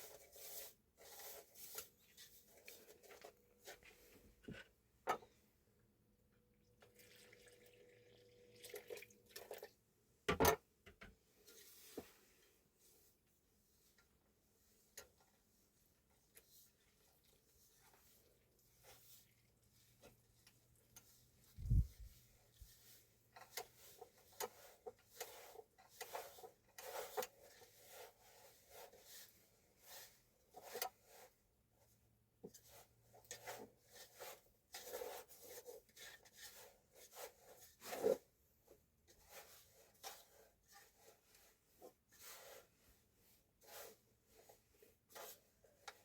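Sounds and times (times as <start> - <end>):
rubbing and scraping handling: 0.0 - 5.4, 11.2 - 46.0.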